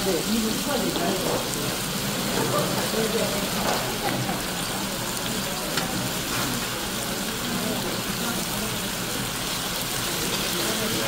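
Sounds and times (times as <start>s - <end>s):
meat and mushrooms sizzling: 0.0s - 11.0s.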